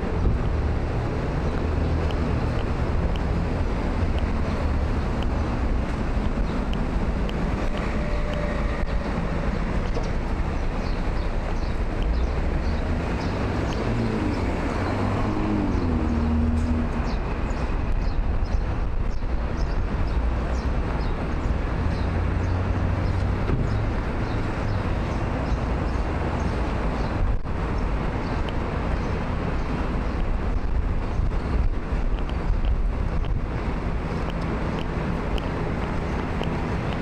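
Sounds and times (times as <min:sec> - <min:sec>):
low rumble of passing cars: 0:00.0 - 0:37.0.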